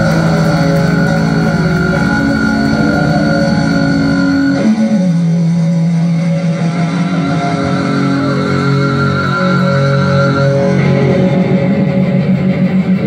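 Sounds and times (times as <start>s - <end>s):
bass: 0.0s - 13.0s
distorted electric guitar chords: 0.0s - 13.0s.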